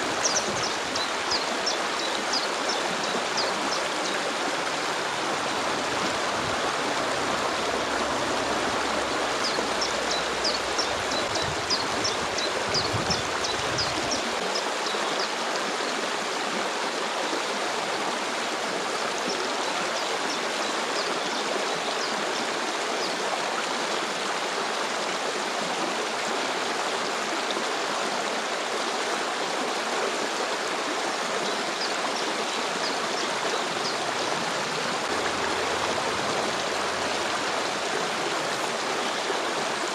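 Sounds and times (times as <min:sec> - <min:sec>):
stream of flowing water: 0:00.0 - 0:39.9.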